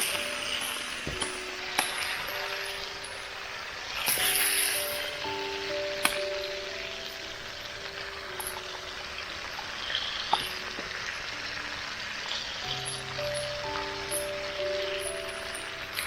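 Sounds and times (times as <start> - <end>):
slow sustained background music: 0.0 - 16.0
steady hiss: 0.0 - 16.0.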